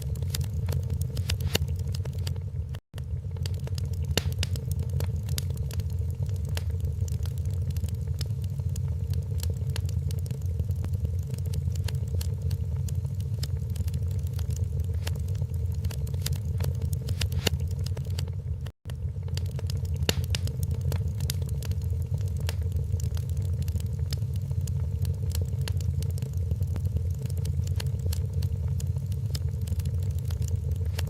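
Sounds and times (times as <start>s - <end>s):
flames rumbling: 0.0s - 31.0s
logs crackling and popping: 0.0s - 31.0s.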